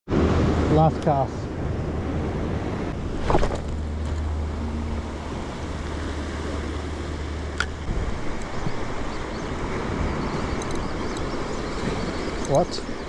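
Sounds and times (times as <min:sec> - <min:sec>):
surf washing against rocks: 0:00.1 - 0:13.0
wind buffeting microphone: 0:00.1 - 0:13.0.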